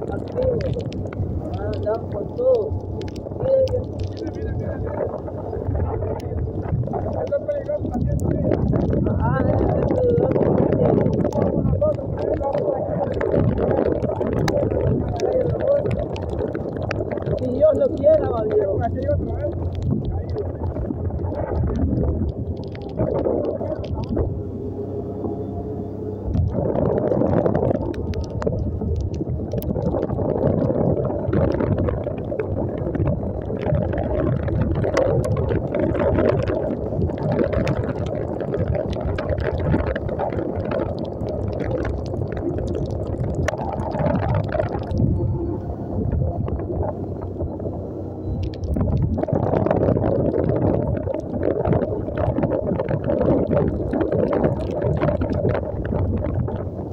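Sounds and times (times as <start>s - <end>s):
tyres on wet road: 0.0s - 56.9s
wind buffeting microphone: 0.0s - 56.9s.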